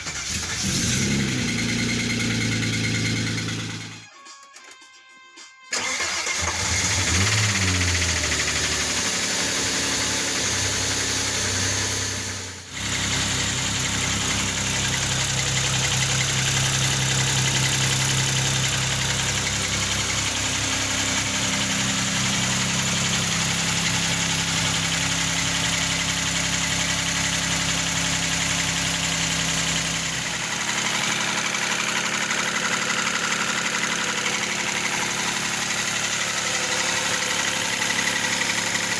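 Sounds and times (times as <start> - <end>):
car engine starting and idling: 0.0 - 4.1, 5.7 - 38.9
engine knocking: 7.0 - 38.9.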